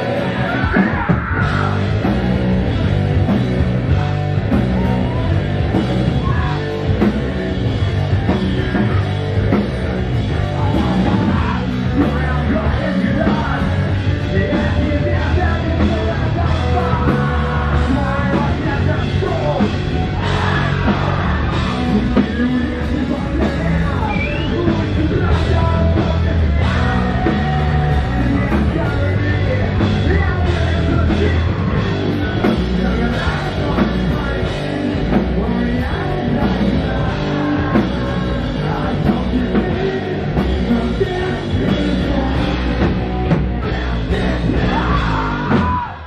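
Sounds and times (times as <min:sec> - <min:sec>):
rock band playing: 0:00.0 - 0:46.0.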